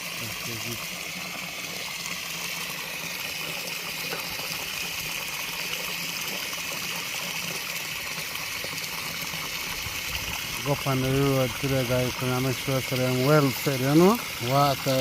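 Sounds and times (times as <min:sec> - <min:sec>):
water running and trickling: 0:00.0 - 0:15.0.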